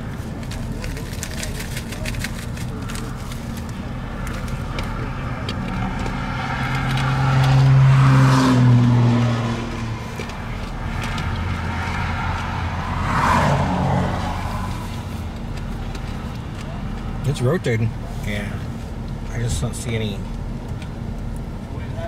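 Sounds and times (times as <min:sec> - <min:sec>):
low engine hum: 0:00.0 - 0:22.0
vehicles passing by: 0:00.0 - 0:22.0.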